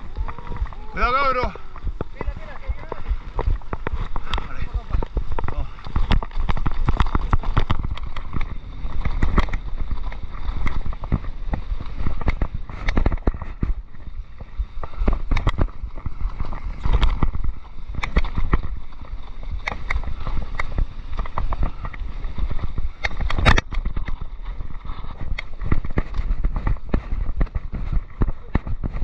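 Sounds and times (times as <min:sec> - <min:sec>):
mountain bike clattering: 0:00.0 - 0:29.0
wind on microphone: 0:00.0 - 0:29.0.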